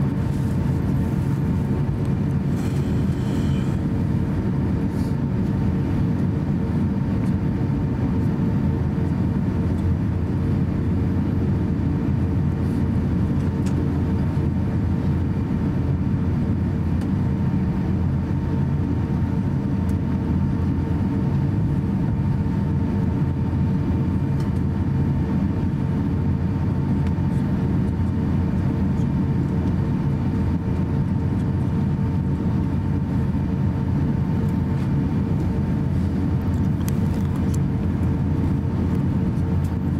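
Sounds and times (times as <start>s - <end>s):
airplane cabin rumble: 0.0s - 39.9s
steady hum: 0.0s - 39.9s.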